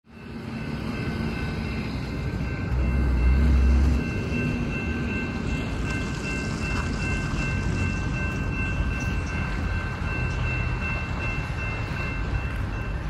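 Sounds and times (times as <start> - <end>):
distant train rumbling: 0.1 - 13.0.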